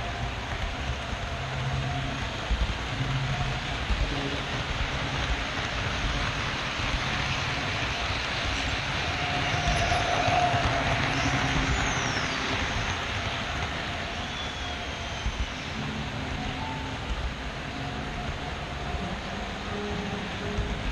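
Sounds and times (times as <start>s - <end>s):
model train rumbling and rattling: 0.0s - 20.9s.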